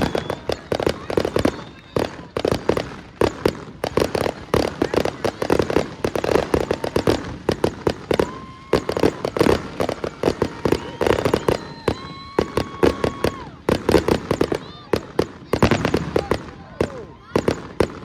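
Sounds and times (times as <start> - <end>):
fireworks bangs and crackles: 0.0 - 18.0
high whistling fireworks: 0.0 - 18.0.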